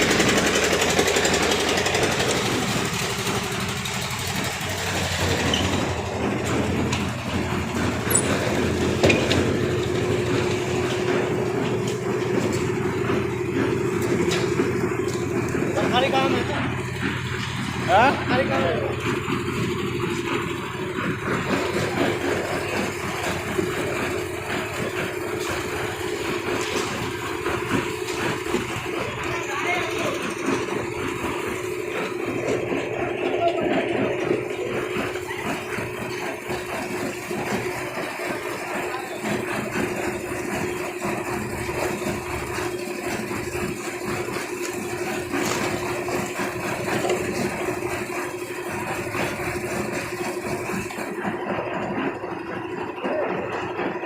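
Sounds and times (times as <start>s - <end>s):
machine engine clattering: 0.0s - 54.0s.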